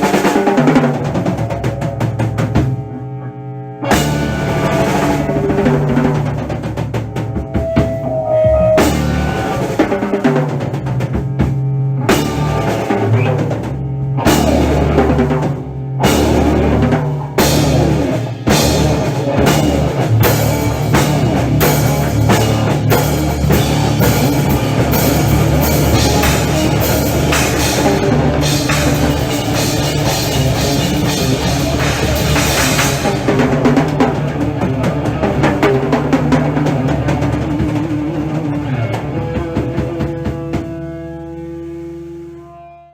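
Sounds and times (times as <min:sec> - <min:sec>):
heavy metal drum solo: 0:00.0 - 0:03.2, 0:03.8 - 0:41.2
cymbals: 0:00.0 - 0:10.8, 0:14.2 - 0:39.5.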